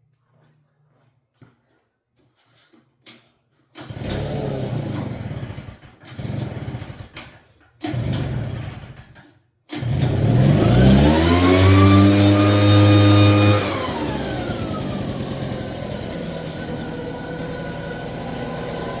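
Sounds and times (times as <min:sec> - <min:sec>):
leaf blower engine starting: 0:03.8 - 0:19.0.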